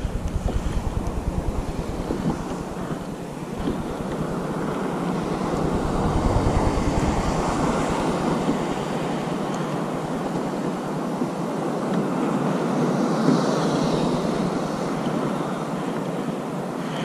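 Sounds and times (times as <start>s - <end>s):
sea waves washing: 0.0s - 17.0s
wind buffeting microphone: 0.0s - 17.0s.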